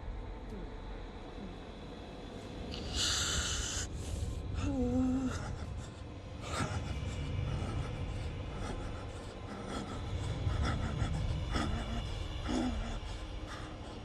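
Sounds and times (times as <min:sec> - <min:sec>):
low rumble: 0:00.0 - 0:14.0
man wheezing breaths: 0:02.7 - 0:14.0.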